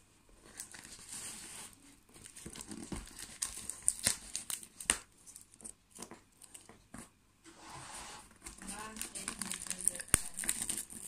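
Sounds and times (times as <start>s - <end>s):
paper and plastic crinkling: 0.4s - 7.1s, 8.2s - 11.0s
sharp crackles of packing material: 0.5s - 6.7s, 8.4s - 11.0s.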